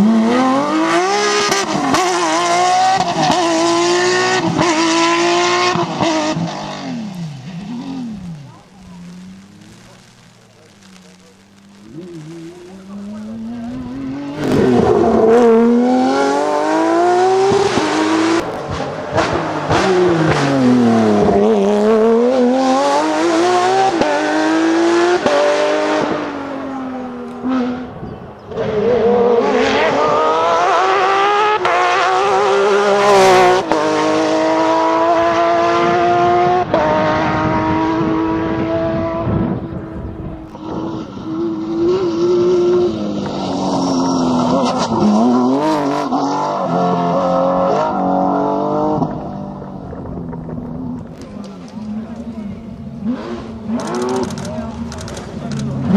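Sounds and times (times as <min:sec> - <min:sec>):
rally car engines revving hard: 0:00.0 - 0:55.9.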